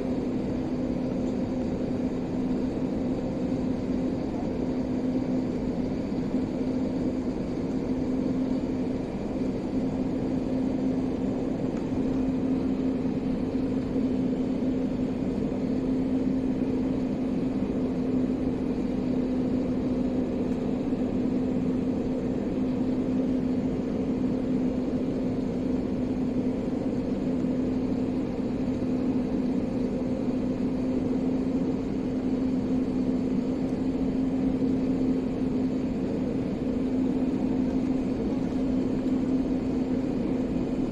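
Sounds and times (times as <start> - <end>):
airliner engines droning: 0.0 - 40.9.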